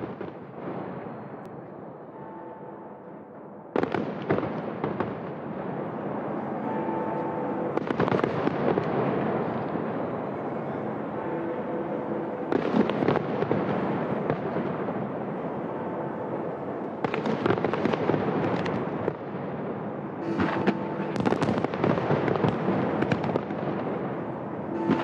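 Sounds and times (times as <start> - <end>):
fireworks crackling: 0.0 - 2.4, 3.3 - 25.0
fireworks bangs: 0.0 - 25.0.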